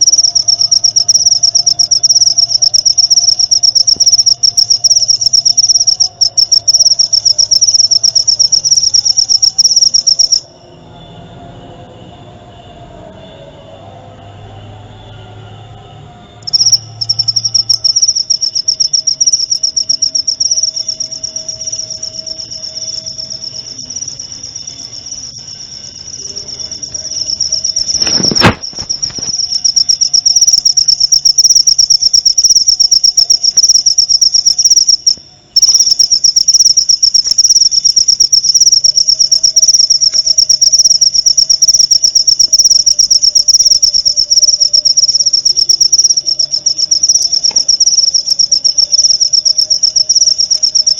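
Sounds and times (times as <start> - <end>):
cricket trilling: 0.0 - 50.9.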